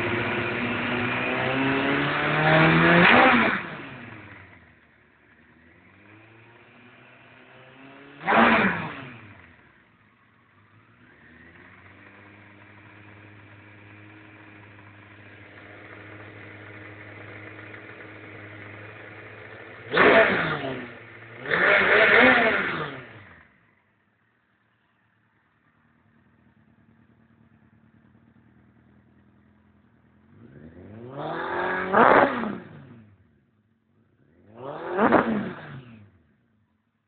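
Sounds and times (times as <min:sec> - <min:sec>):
motorcycle engine idling: 0:00.0 - 0:02.1, 0:03.0 - 0:08.1, 0:09.2 - 0:35.0, 0:35.6 - 0:37.0
motorcycle engine revving: 0:00.0 - 0:37.0.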